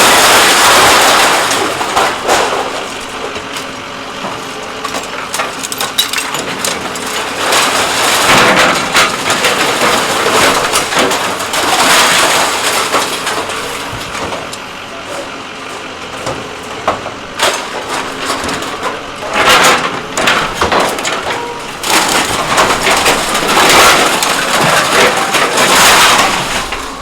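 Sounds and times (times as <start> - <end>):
metal crushing with sharp cracks: 0.0 - 27.0.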